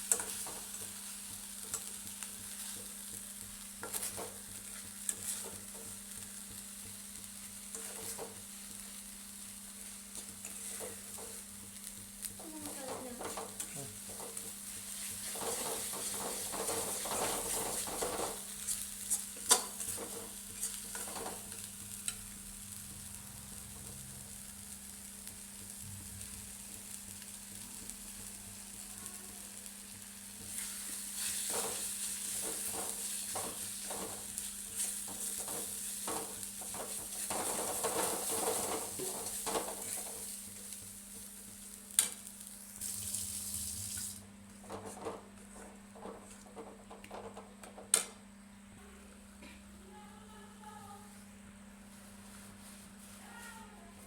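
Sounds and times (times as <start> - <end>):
chicken sizzling in hot oil: 0.0 - 44.2.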